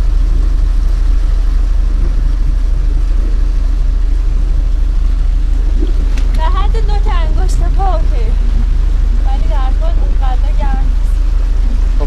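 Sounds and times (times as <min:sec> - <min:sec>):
ship machinery droning: 0:00.0 - 0:12.0.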